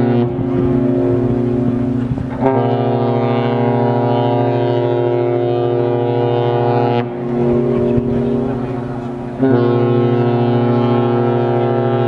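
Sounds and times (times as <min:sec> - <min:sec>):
ship horns blowing: 0:00.0 - 0:12.0.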